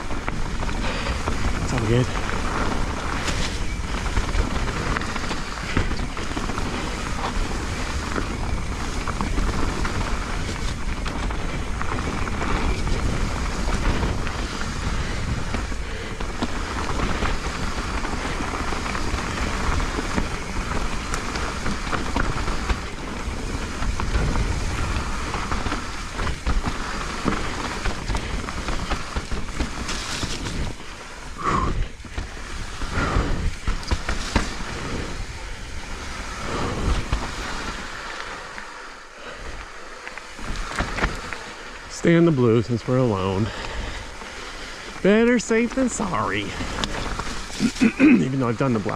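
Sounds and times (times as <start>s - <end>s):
bike knocking and rattling: 0.0s - 48.9s
wind and tyre noise: 0.0s - 48.9s.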